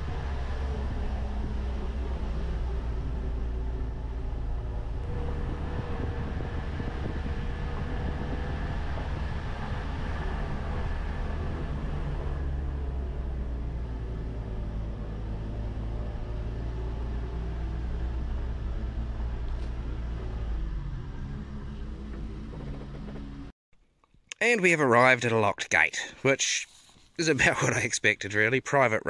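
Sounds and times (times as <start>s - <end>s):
van engine droning: 0.0s - 23.5s.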